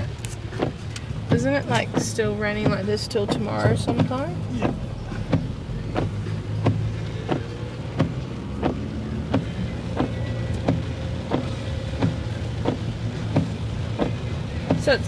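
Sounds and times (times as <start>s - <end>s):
car hum: 0.0s - 15.0s
windscreen wipers running: 0.0s - 15.0s.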